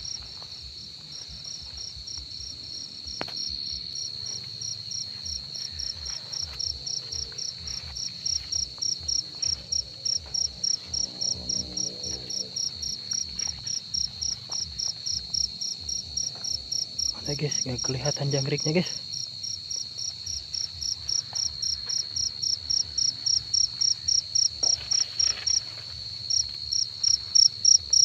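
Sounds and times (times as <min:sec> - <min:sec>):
cricket chirping in pulses: 0:00.0 - 0:28.0
cricket trilling: 0:00.0 - 0:28.0.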